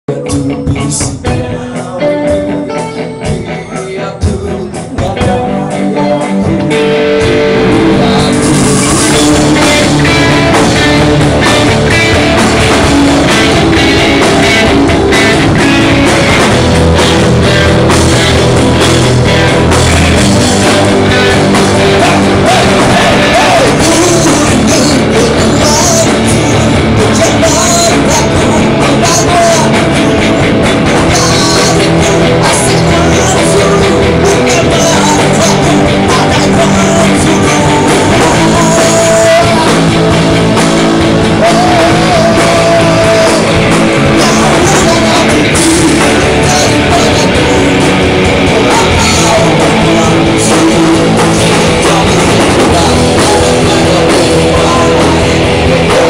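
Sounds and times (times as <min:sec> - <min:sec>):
drums: 0:00.0 - 0:56.0
electric guitar: 0:00.0 - 0:56.0
person singing: 0:00.0 - 0:56.0
live rock band: 0:00.1 - 0:56.0.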